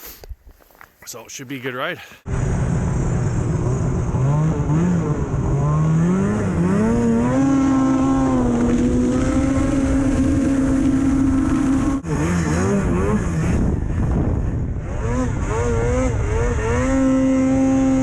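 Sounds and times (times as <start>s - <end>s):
snowmobile engine accelerating: 2.3s - 18.0s.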